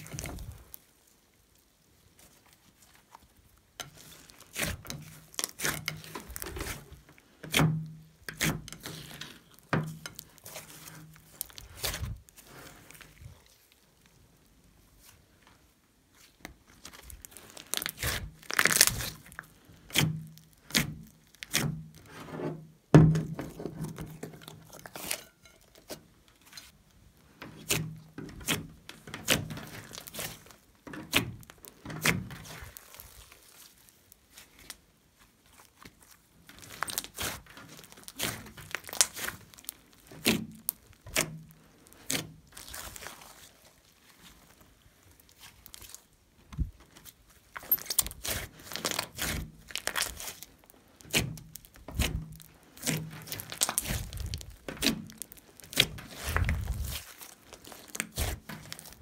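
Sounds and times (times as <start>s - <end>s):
slime crackling and squishing: 0.0s - 59.0s.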